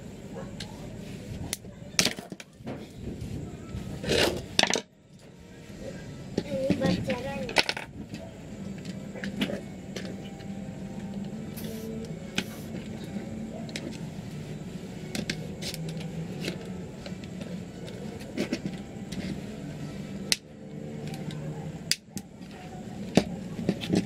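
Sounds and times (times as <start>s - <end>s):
steady low hum: 2.6s - 24.0s.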